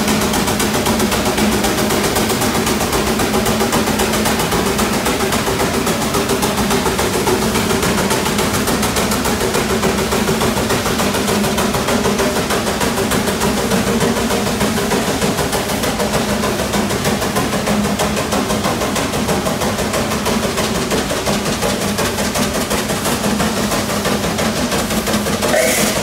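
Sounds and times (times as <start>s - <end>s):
steam engine drone and beat: 0.0s - 26.0s.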